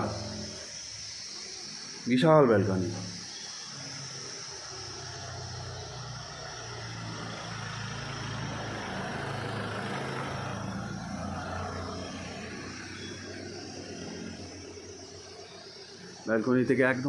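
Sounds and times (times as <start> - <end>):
vehicle engine humming: 3.0 - 17.0.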